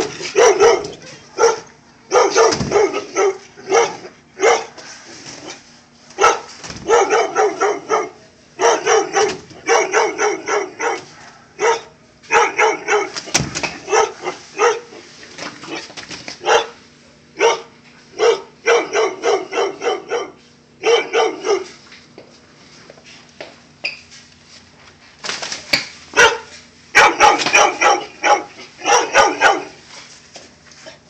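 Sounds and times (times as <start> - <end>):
dogs barking: 0.0 - 15.0, 15.7 - 21.8, 26.1 - 29.9.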